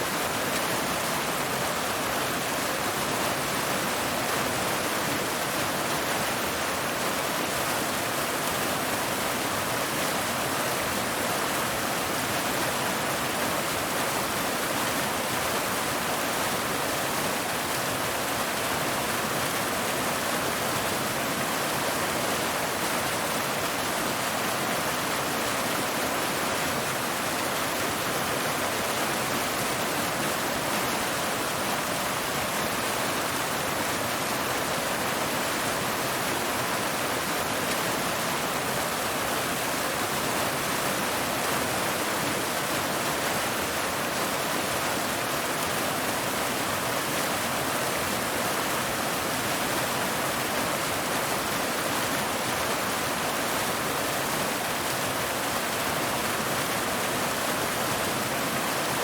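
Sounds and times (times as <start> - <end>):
water cascading over rocks: 0.0 - 59.0.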